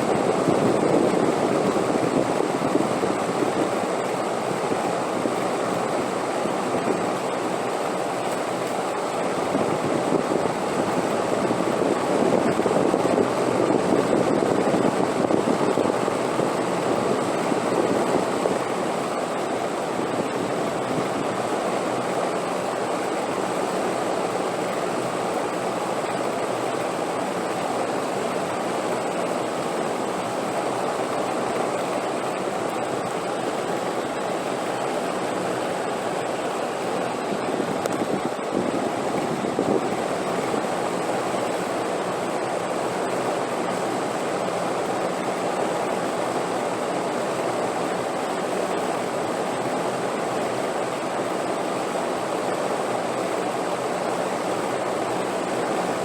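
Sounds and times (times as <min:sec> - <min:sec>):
rushing wind: 0:00.0 - 0:56.0.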